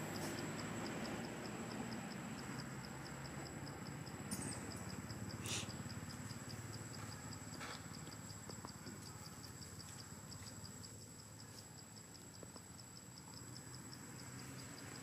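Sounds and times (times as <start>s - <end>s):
continuous high whine: 0.0s - 15.0s
insects chirping: 0.0s - 15.0s.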